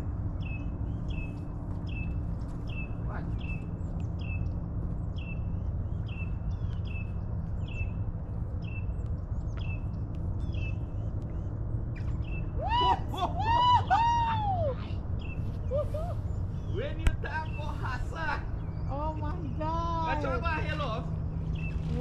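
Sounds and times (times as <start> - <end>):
bird chirping: 0.0 - 12.9, 15.1 - 22.0
low rumble: 0.0 - 22.0.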